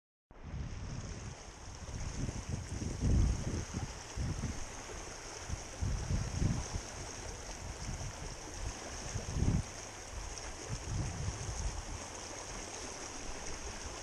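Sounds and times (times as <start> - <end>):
stream water rushing: 0.4 - 14.0.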